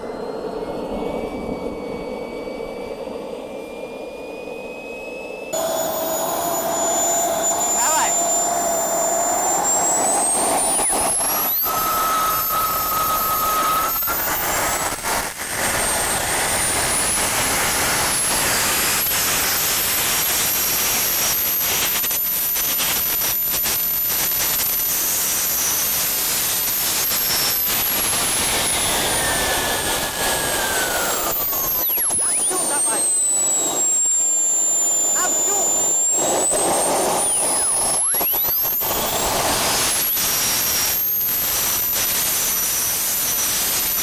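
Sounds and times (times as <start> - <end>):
model jet turbine whine: 0.0 - 44.0.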